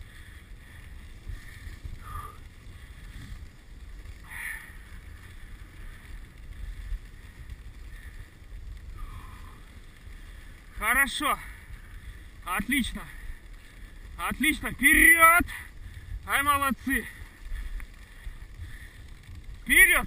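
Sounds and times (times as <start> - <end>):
sled runners rushing on snow: 0.0 - 20.0.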